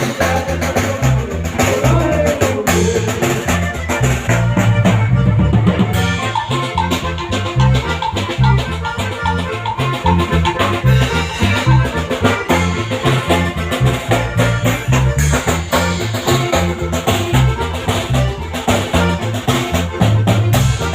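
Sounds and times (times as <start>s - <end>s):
bass line: 0.0s - 20.9s
steady drums: 0.0s - 20.9s.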